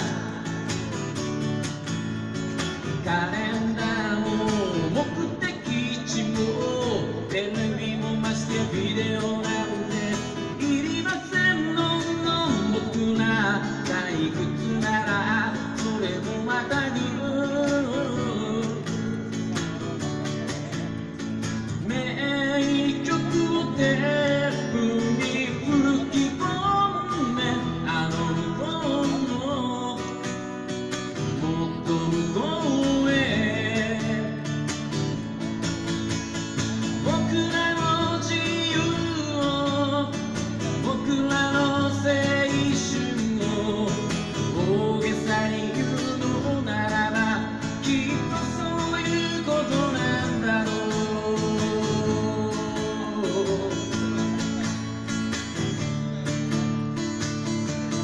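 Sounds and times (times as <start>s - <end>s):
man singing: 0.0s - 56.7s
acoustic guitar strumming: 0.0s - 58.0s.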